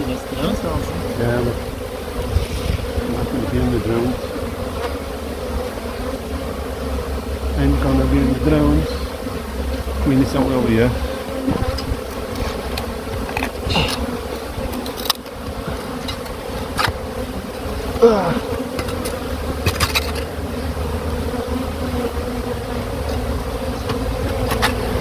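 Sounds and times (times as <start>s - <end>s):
honeybee colony buzzing: 0.0s - 25.0s.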